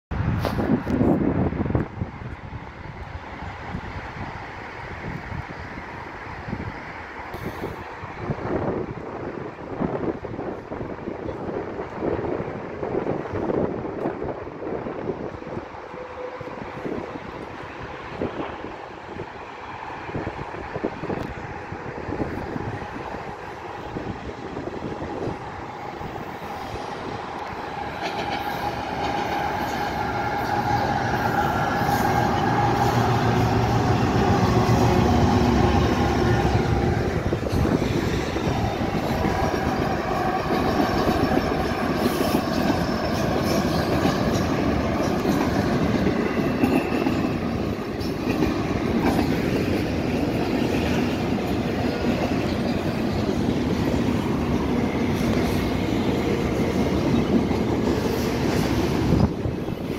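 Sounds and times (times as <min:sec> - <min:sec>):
diesel locomotives passing: 0:00.1 - 0:59.9
train wheels rolling: 0:00.2 - 0:59.9.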